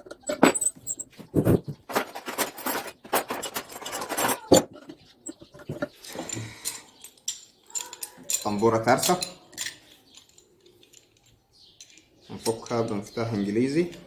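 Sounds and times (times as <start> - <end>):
metallic clinks and rattles: 0.0 - 14.0.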